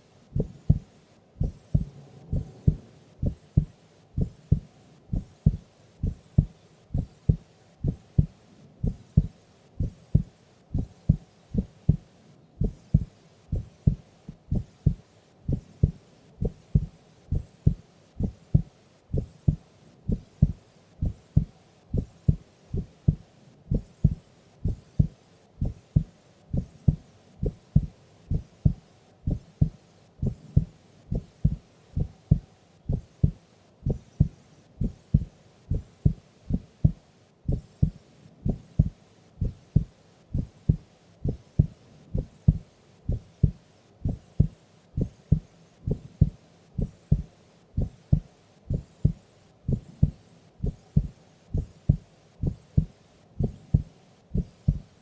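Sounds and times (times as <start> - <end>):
heartbeat thumps: 0.4 - 54.9.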